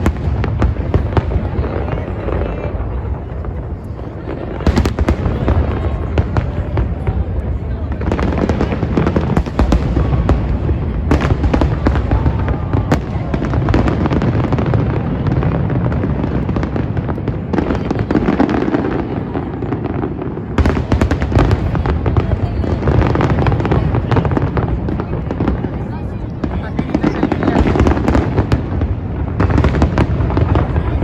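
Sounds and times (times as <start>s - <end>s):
fireworks booming: 0.0s - 31.0s.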